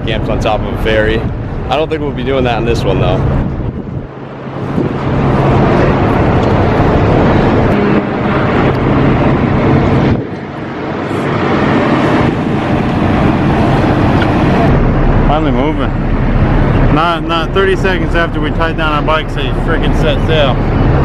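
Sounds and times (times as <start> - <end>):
ferry engines rumbling: 0.0 - 21.0
wind buffeting microphone: 0.0 - 21.0.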